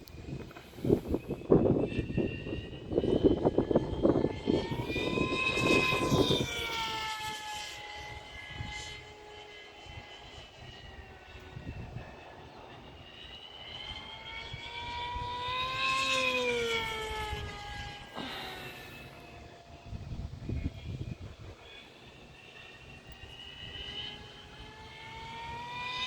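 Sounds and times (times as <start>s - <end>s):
model airplane motor whining: 0.0s - 26.0s
wind buffeting microphone: 0.0s - 26.0s.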